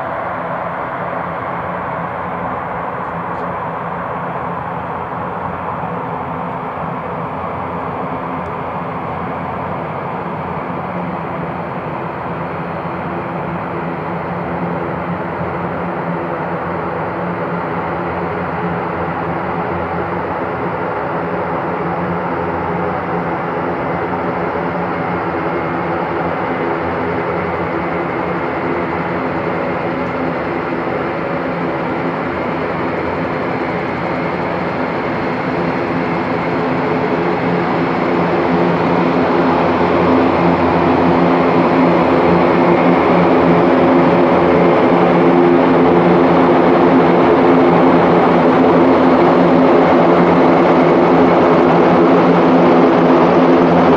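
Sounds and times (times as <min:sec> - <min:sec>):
turboprop engines droning: 0:00.0 - 0:53.9.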